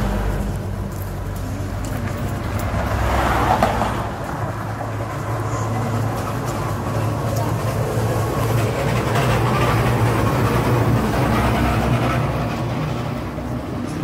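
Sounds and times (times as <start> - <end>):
road traffic rumble: 0.0 - 14.0
vehicle passing: 0.0 - 14.0.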